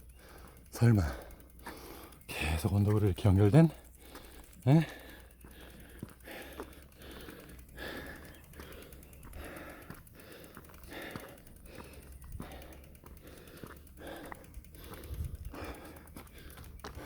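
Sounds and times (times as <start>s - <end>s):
man panting: 0.0s - 2.4s, 3.6s - 17.0s.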